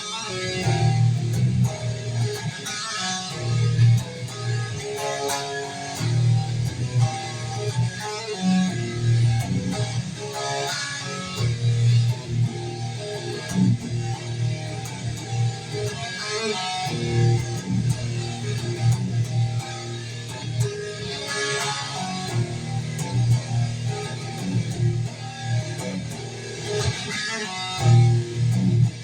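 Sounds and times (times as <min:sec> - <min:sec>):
guitar strumming and picking: 0:00.0 - 0:29.0.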